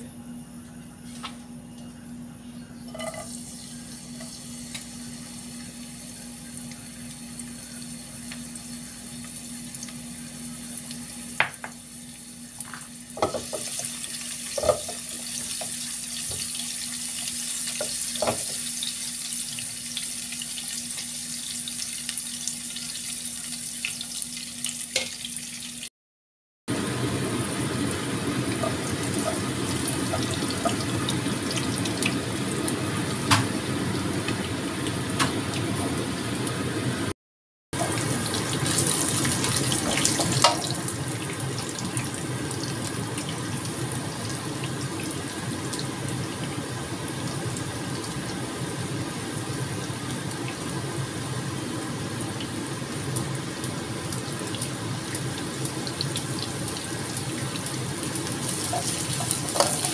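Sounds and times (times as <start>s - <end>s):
garlic sizzling in hot oil: 2.9s - 25.9s, 26.7s - 36.9s, 37.8s - 59.9s.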